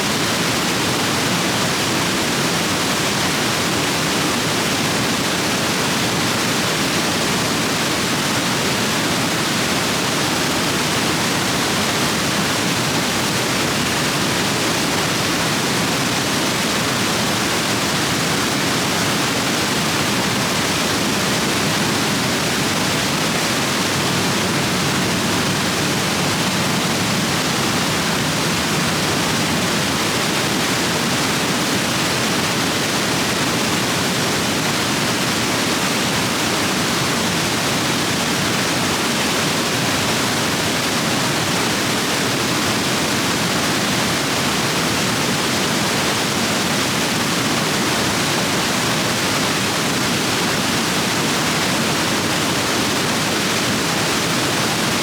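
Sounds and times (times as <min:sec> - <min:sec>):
river rapids rushing over rocks: 0:00.0 - 0:55.0.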